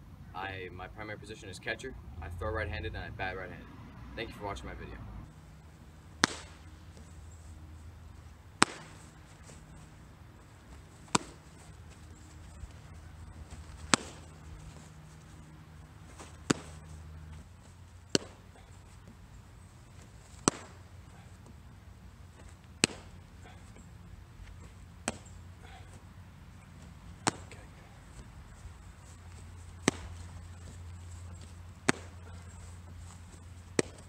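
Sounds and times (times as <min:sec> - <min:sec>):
baseballs smacking into leather mitt: 0:06.0 - 0:34.0.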